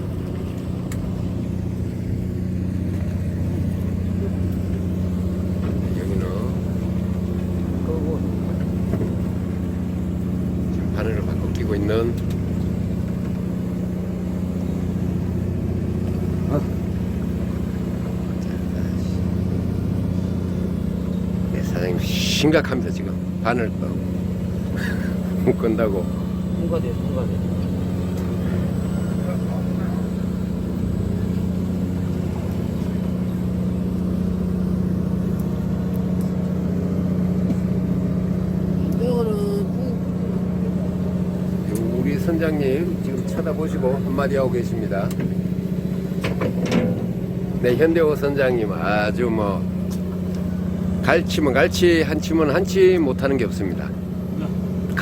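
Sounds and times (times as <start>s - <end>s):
diesel boat engine running: 0.0s - 55.0s.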